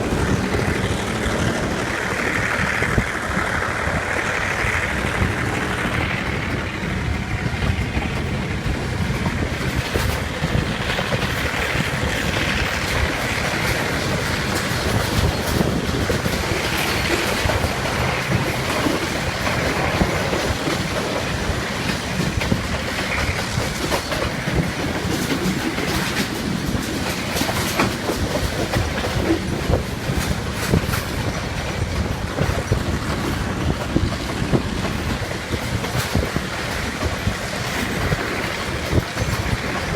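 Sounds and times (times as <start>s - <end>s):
diesel locomotive rumble: 0.0s - 39.9s
wheels clattering over rail joints: 0.0s - 39.9s.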